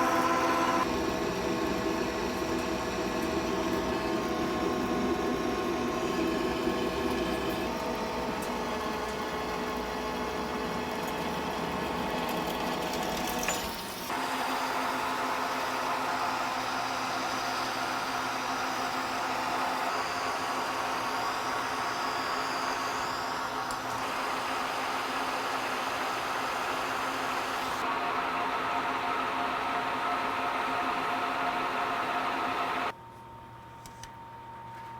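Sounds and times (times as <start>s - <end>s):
metal lathe running: 0.0s - 11.8s, 14.2s - 32.9s.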